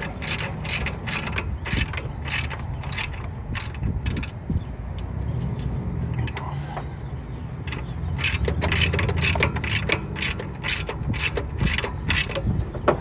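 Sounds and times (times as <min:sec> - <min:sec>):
ratchet wrench clicking: 0:00.0 - 0:06.4, 0:07.6 - 0:12.5.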